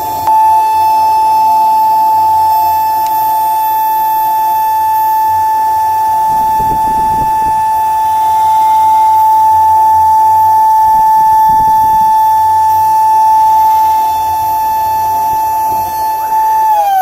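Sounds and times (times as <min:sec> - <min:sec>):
high-pitched spindle whine: 0:00.0 - 0:17.0.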